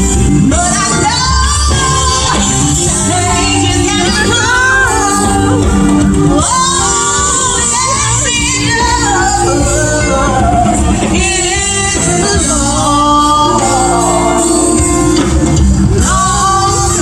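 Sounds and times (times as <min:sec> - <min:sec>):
band playing bass and chords: 0:00.0 - 0:17.0
person singing lead vocals: 0:00.0 - 0:17.0.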